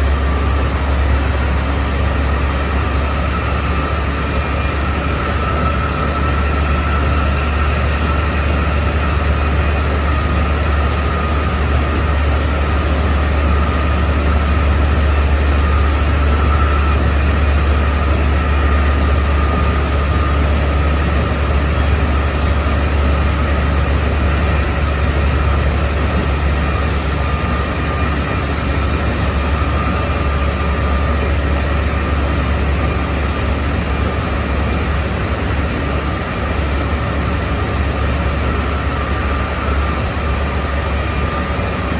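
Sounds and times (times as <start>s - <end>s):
electric train motor whine: 0.0s - 41.9s
wheels rumbling on rail: 0.0s - 41.9s.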